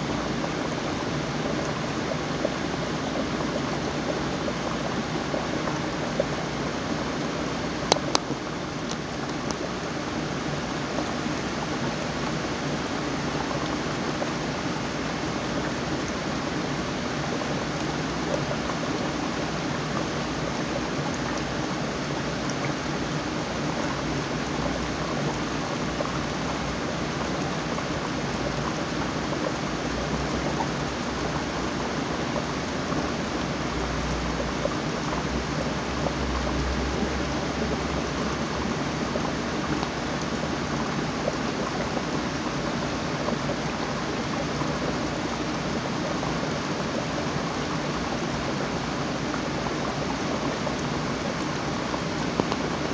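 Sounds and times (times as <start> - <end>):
aquarium water running: 0.0 - 52.9.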